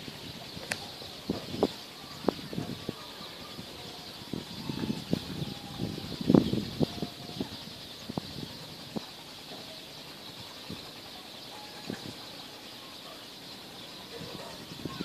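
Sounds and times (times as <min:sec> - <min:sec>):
faint bird chirps: 0:00.0 - 0:15.0
steady high hiss: 0:00.0 - 0:15.0.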